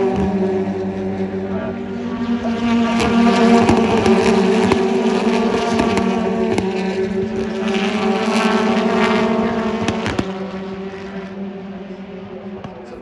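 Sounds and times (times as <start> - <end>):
racing car engines droning: 0.0 - 13.0.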